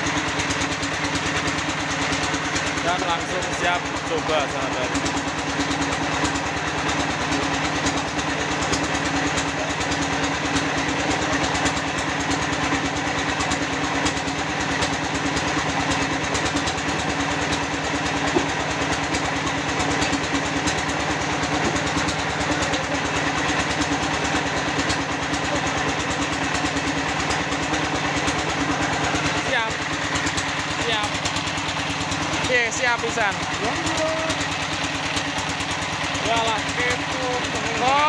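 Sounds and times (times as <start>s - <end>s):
block press machine vibrating: 0.1s - 38.0s.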